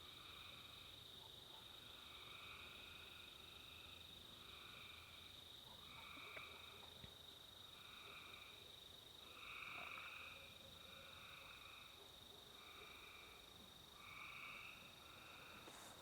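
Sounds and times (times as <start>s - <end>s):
high insect trill: 0.0s - 16.0s.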